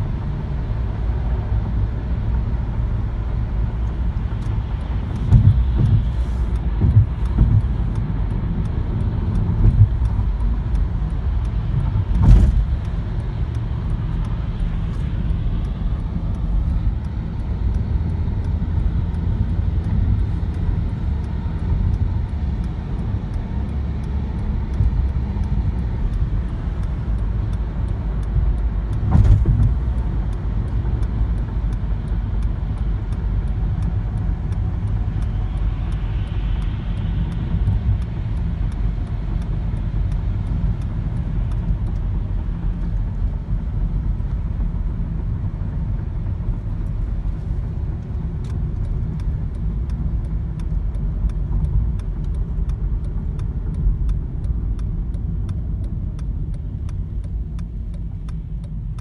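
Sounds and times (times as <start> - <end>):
car engine rumble: 0.0 - 59.0
tyres on wet slushy road: 0.0 - 59.0.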